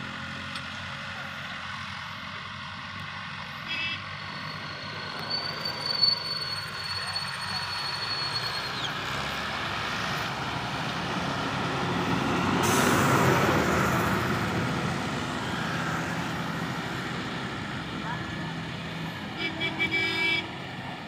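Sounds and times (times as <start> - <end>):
tractor diesel engines under load: 0.0 - 21.0.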